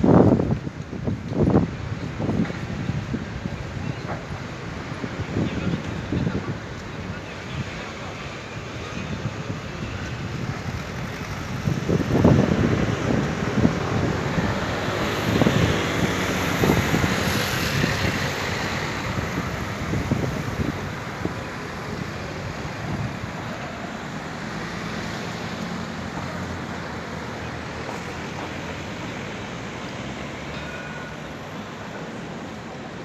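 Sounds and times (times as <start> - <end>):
cars passing: 0.0 - 33.0.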